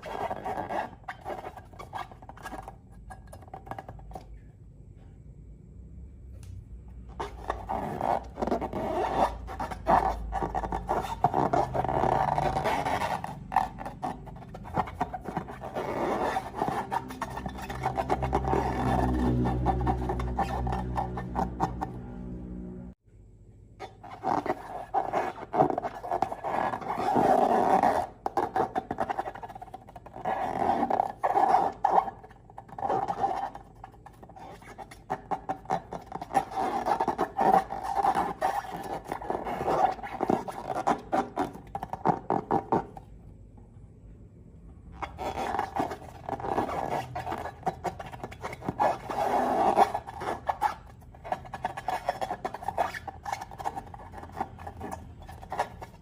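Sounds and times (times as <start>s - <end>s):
rubber balloons squeaking and crackling: 0.0s - 4.4s, 7.0s - 22.4s, 23.8s - 43.2s, 44.9s - 56.0s.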